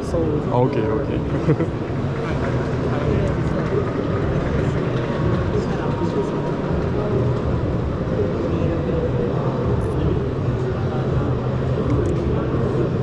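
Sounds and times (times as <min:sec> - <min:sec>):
faint indistinct voices: 0:00.0 - 0:13.0.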